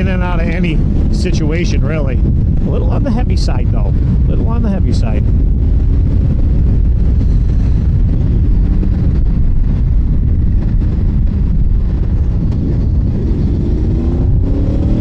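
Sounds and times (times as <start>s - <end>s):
motorcycle engine cruising: 0.0s - 15.0s
wind rumble on microphone: 0.0s - 15.0s.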